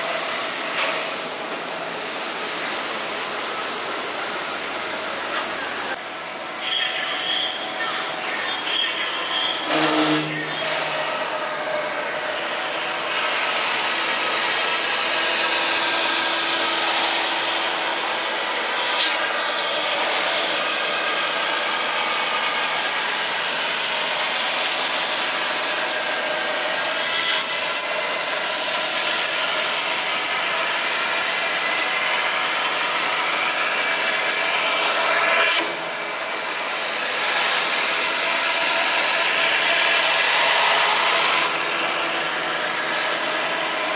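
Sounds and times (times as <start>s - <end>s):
cnc router cutting foam: 0.0s - 43.9s.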